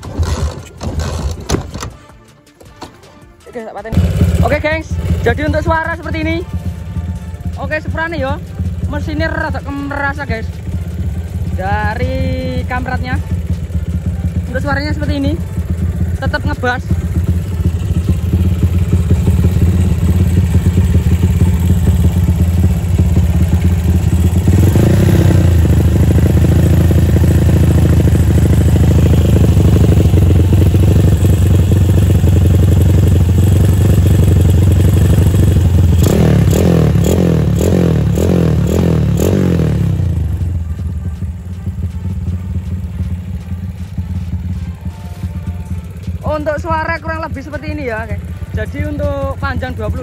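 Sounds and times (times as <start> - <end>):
motorcycle engine revving: 0.0 - 2.0, 3.9 - 50.0.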